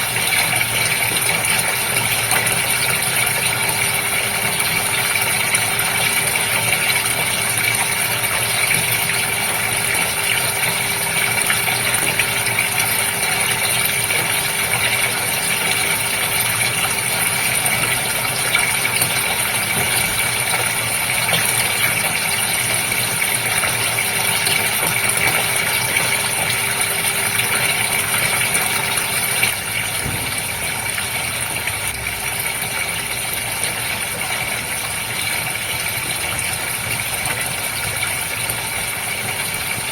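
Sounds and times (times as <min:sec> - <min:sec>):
water pump hum: 0:00.0 - 0:39.9
water running: 0:00.0 - 0:39.9.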